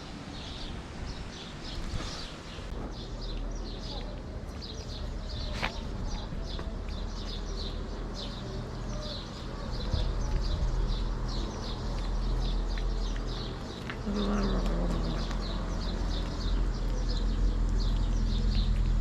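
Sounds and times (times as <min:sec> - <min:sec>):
steady low rumble: 0:00.0 - 0:19.0
small birds chirping: 0:00.3 - 0:19.0.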